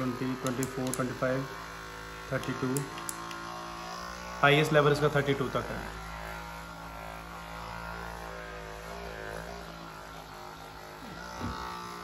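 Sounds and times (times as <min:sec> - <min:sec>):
massage gun motor buzz: 0:00.0 - 0:12.0.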